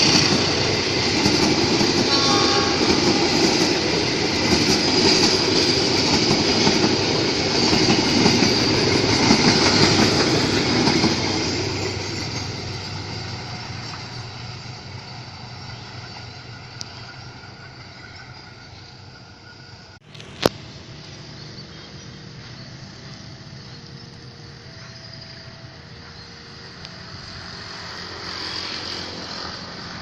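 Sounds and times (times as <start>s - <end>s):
train passing on rails: 0.0s - 30.0s.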